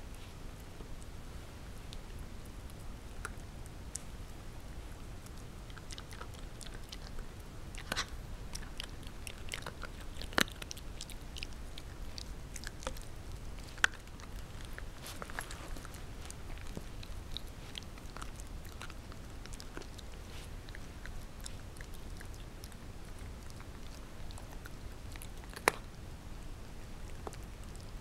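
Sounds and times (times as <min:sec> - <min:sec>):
puppy chewing crunchy treat: 0:00.1 - 0:28.0.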